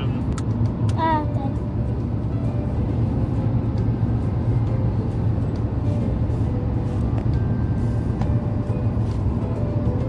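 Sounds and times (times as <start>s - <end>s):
vehicle motor rumbling: 0.0s - 10.0s.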